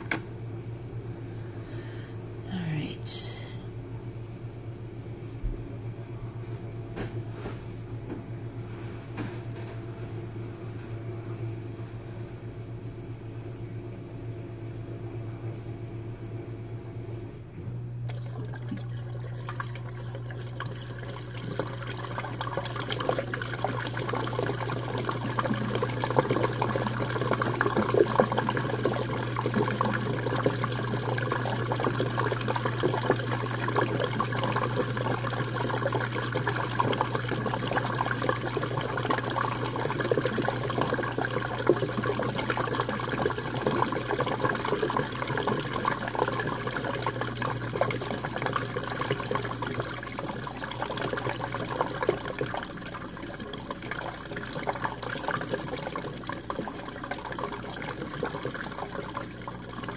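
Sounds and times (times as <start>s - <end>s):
low pump hum: 0.0s - 59.9s.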